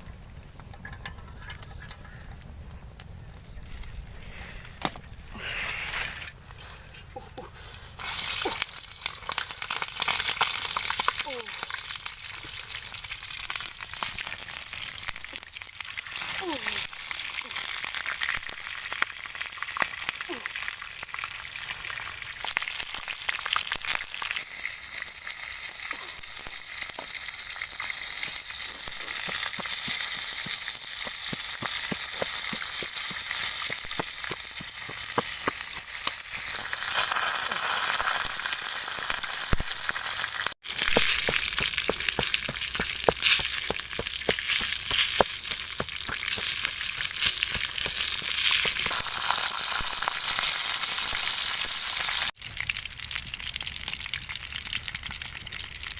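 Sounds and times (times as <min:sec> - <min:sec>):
food sizzling in hot oil: 0:08.0 - 0:55.9.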